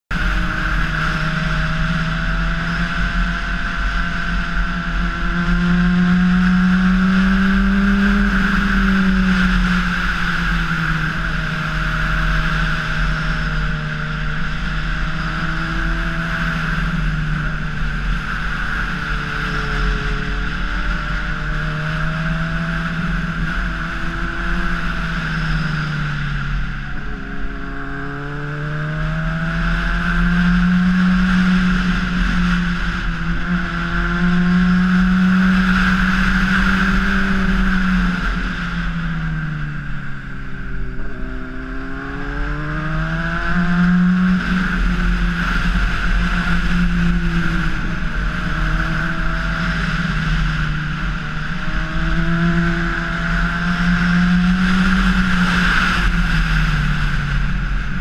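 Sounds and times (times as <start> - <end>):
motorcycle engine cruising: 0.1 - 58.0
wind and road noise: 0.1 - 58.0.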